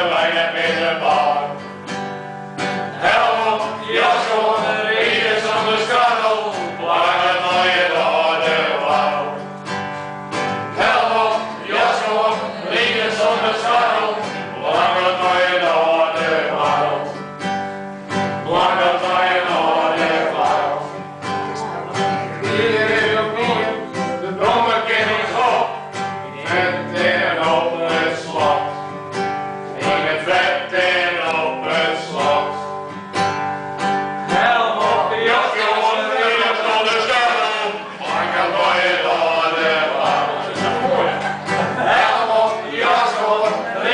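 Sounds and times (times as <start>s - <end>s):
voices singing along: 0.0s - 33.0s, 34.2s - 43.9s
acoustic guitar: 0.0s - 43.9s.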